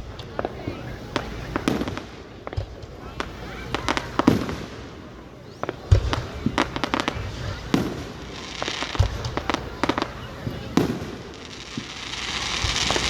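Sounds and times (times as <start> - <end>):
deep fireworks booms: 0.0 - 13.0
fireworks cracking: 0.0 - 13.0
fireworks crackling: 0.0 - 13.0.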